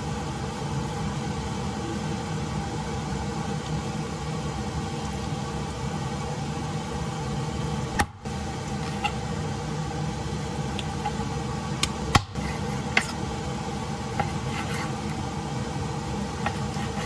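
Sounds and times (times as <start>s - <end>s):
droning motor hum: 0.0s - 17.0s.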